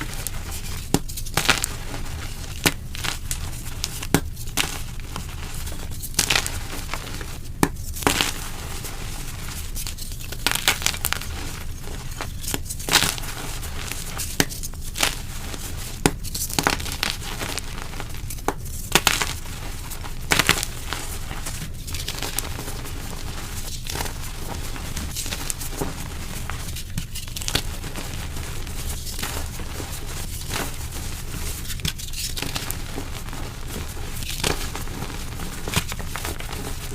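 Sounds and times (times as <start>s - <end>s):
chalk blocks crunching: 0.0s - 36.9s.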